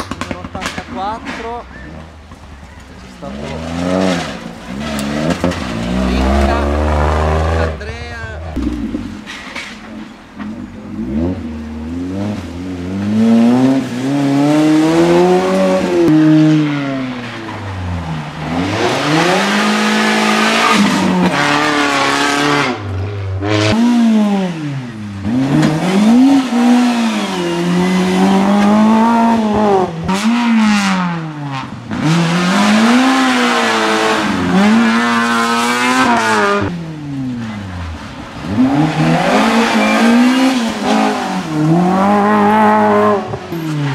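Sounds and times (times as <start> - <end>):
rally car engines revving high: 0.0 - 43.9.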